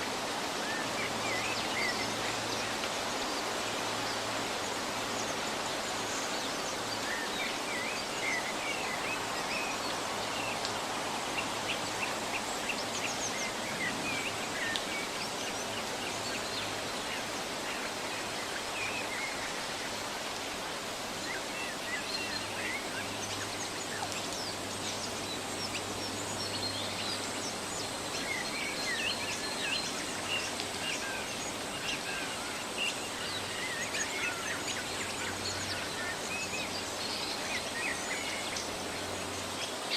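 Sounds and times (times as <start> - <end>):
rushing forest ambience: 0.0 - 39.9
songbirds chirping: 0.0 - 39.9.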